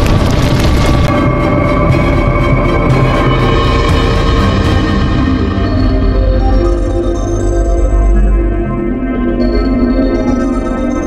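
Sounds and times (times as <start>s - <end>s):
dramatic soundtrack music: 0.0s - 11.0s.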